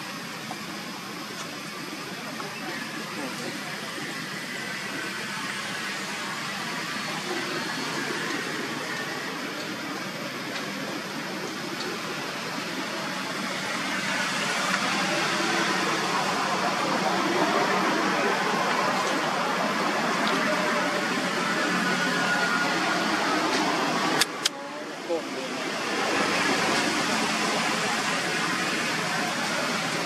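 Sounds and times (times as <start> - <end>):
steady hissing noise: 0.0 - 30.0.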